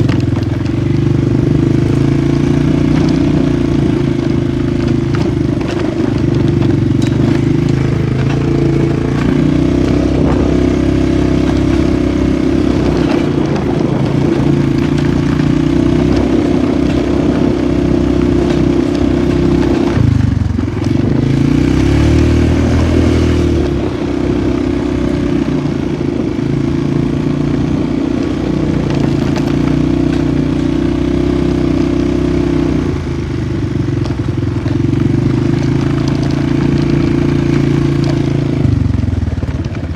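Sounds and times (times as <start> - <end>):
atv engine drone: 0.0 - 39.9.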